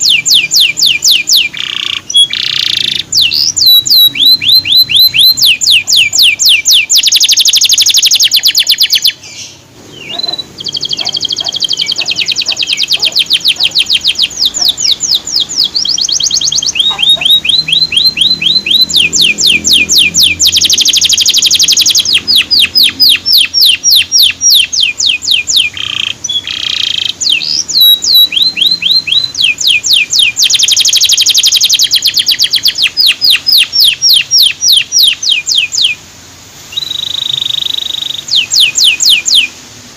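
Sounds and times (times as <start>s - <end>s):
canary singing trills: 0.0s - 39.6s.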